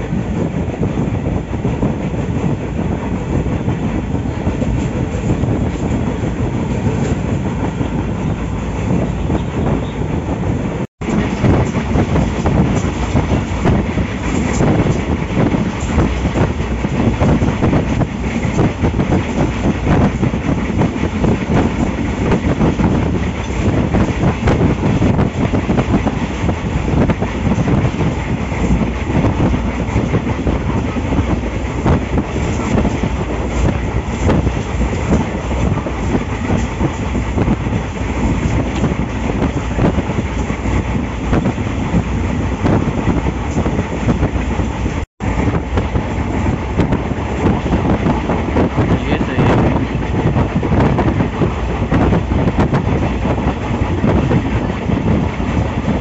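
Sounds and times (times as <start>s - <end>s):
clickety-clack of rail joints: 0.0s - 56.0s
train wheels rumbling on track: 0.0s - 56.0s.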